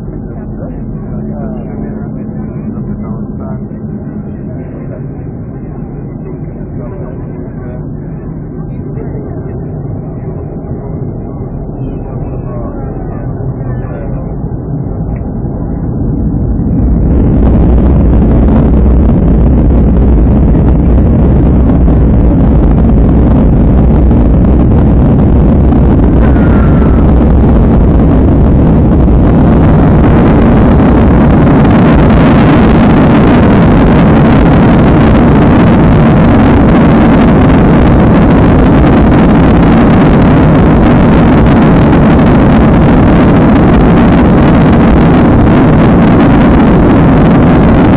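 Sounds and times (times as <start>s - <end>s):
jet engines spooling up: 0.0s - 47.9s.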